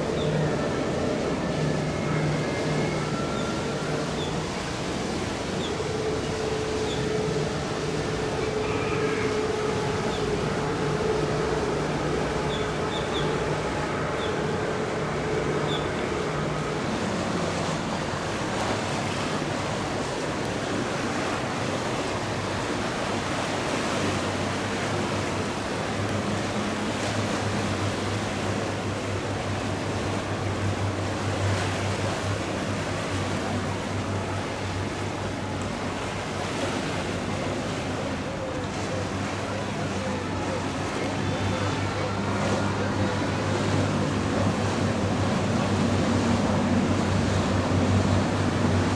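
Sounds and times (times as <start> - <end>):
low engine drone: 0.0 - 48.9
powerboat engines: 0.0 - 48.9
waves washing: 0.0 - 48.9
wind: 0.0 - 48.9.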